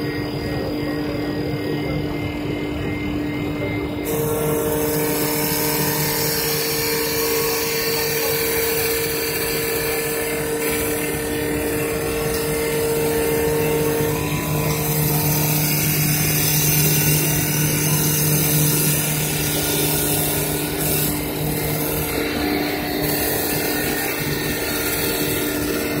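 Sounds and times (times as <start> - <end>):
sanding hiss with high whine: 0.0 - 26.0
wood lathe humming and whining: 0.0 - 26.0.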